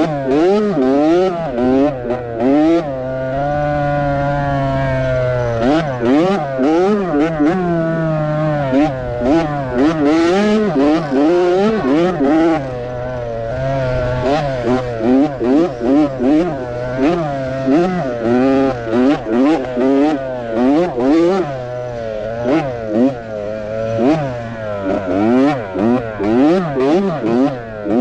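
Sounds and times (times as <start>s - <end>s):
small motorbike engine revving: 0.0s - 28.0s.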